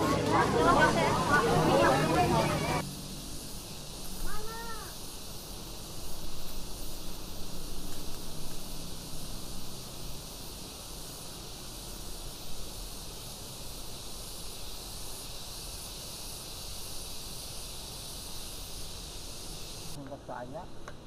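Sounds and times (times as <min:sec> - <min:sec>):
high-pitched outdoor hiss: 0:00.0 - 0:21.0.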